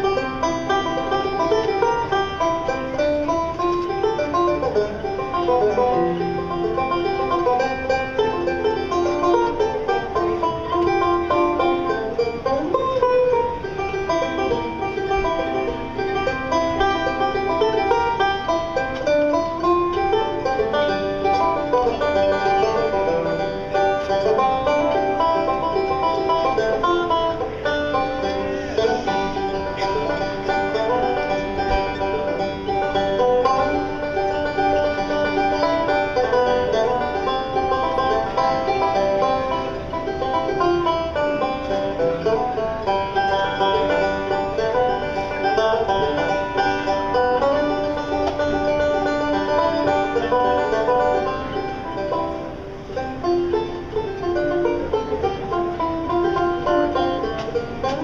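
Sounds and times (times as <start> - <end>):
banjo rapid picking: 0.0 - 58.0.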